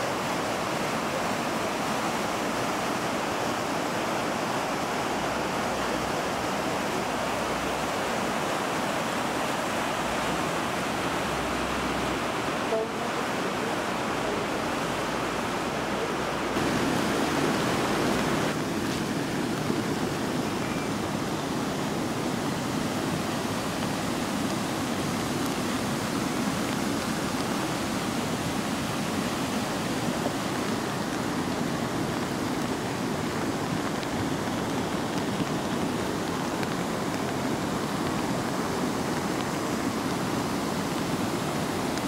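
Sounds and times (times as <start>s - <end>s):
floodwater rushing over rocks: 0.0s - 42.0s.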